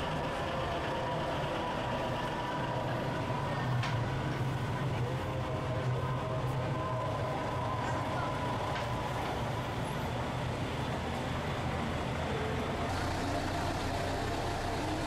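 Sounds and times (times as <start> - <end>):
coach engines idling: 0.0 - 15.0
street traffic: 0.0 - 15.0.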